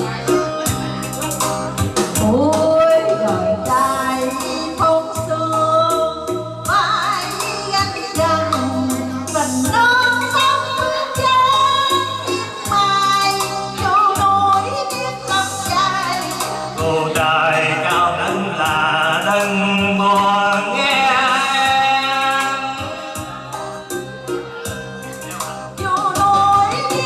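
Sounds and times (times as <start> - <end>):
backing music with bass line: 0.0 - 27.0
woman and man singing duet: 2.2 - 23.5, 25.8 - 27.0.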